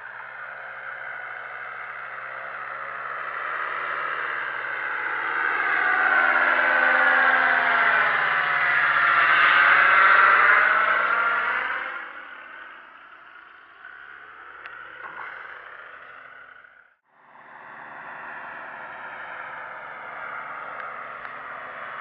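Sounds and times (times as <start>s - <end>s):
paramotor engine droning: 0.0s - 22.0s.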